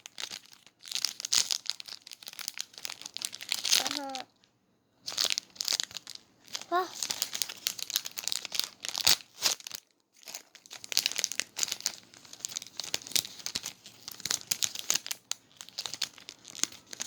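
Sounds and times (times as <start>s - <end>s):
sticker packaging crinkling: 0.0s - 4.3s, 5.0s - 17.0s.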